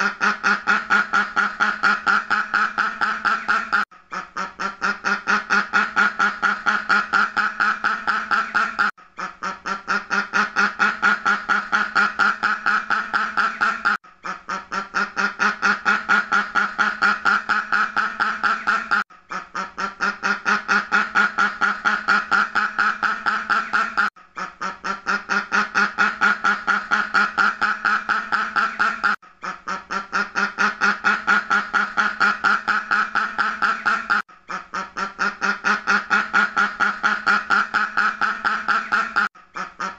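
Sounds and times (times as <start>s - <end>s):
duck quacking: 0.0s - 39.9s.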